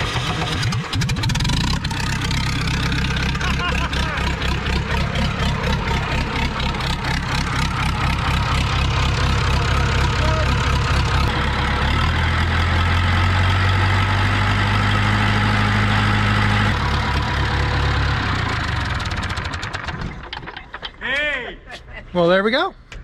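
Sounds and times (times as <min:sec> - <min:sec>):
diesel engine knocking at idle: 0:00.0 - 0:15.1, 0:16.2 - 0:20.4.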